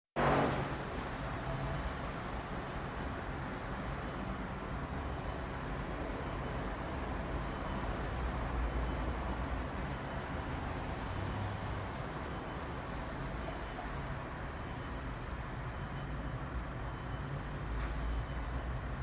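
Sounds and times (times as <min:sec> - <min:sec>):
traffic rumble and hiss: 0:00.2 - 0:19.0.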